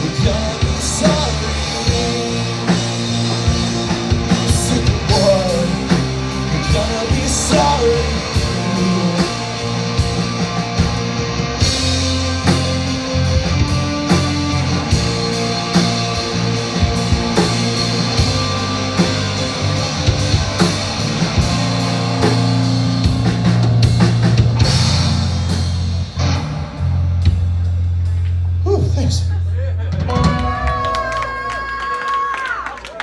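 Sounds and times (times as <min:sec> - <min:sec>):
rock band playing: 0:00.0 - 0:29.0, 0:29.9 - 0:31.8.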